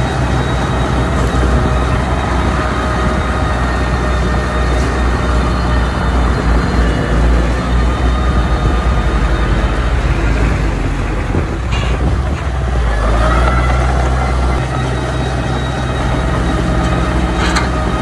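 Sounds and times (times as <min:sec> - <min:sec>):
diesel engines rumbling: 0:00.0 - 0:18.0.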